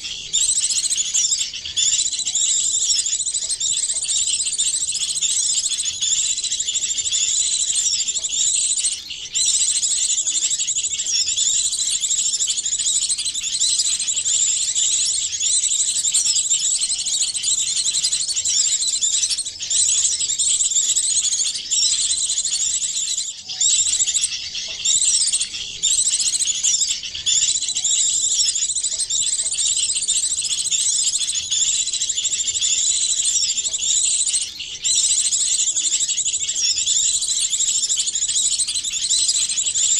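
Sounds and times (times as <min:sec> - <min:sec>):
songbirds chattering: 0:00.0 - 0:39.9.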